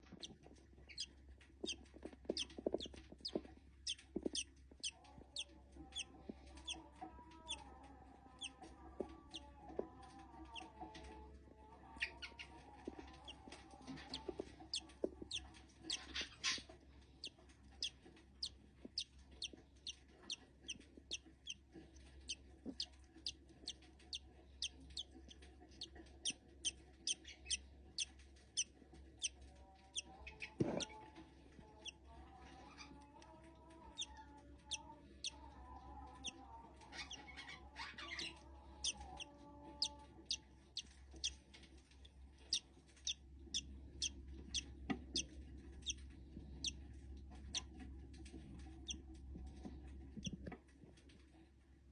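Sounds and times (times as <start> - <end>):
chick peeping: 0.0 - 11.2, 11.8 - 31.0, 31.7 - 41.6, 42.4 - 49.0.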